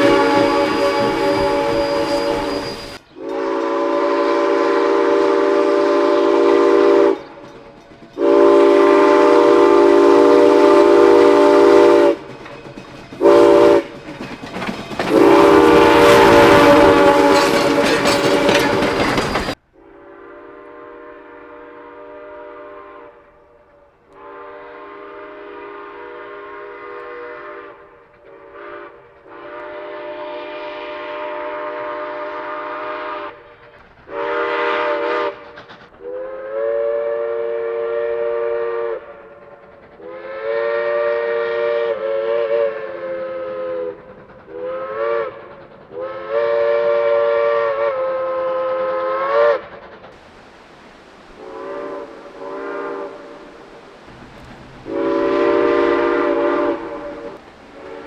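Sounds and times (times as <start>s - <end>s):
steam locomotive whistle blasts: 0.0s - 12.3s, 13.2s - 14.0s, 15.1s - 50.3s, 51.2s - 58.0s.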